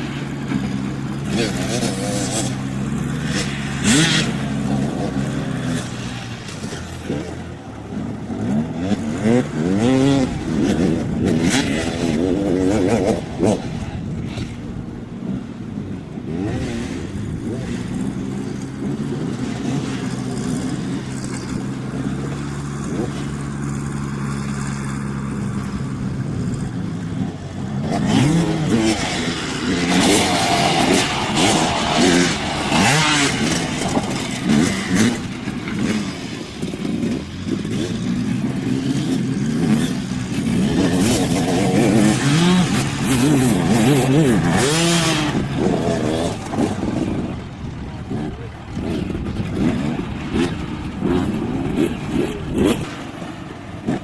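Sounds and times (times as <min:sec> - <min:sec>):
dirt bike engine revving: 0:00.0 - 0:15.5, 0:16.2 - 0:54.0
steady engine drone: 0:00.0 - 0:54.0.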